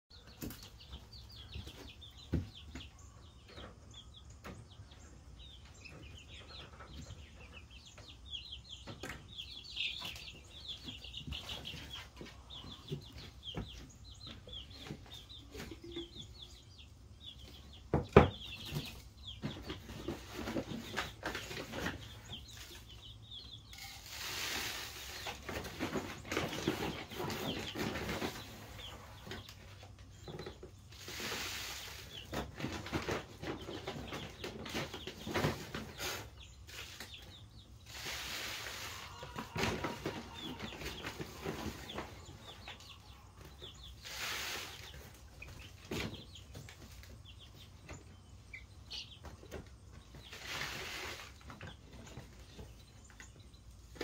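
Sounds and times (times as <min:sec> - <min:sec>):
chicks peeping: 0:00.1 - 0:54.0.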